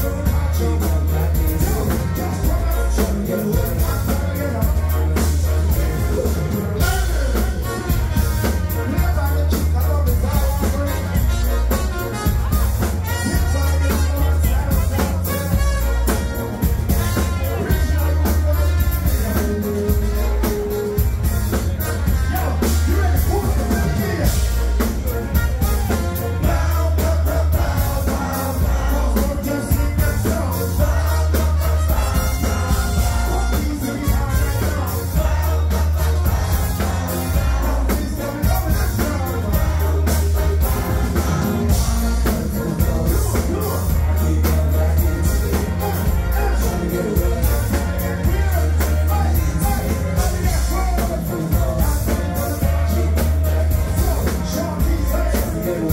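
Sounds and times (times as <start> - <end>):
drums: 0.0 - 55.9
live band playing bass-heavy music: 0.0 - 55.9
person singing: 0.0 - 55.9.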